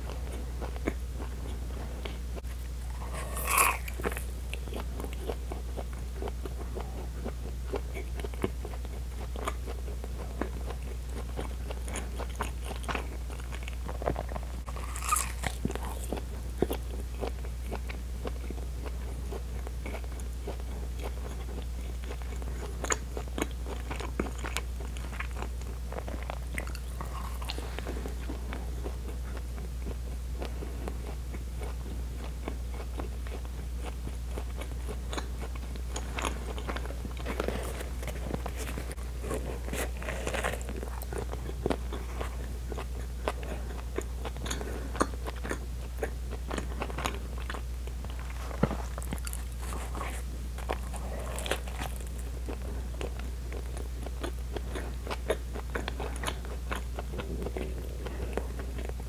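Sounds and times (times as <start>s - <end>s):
low steady hum: 0.0s - 59.0s
chewing with wet mouth clicks: 2.0s - 59.0s.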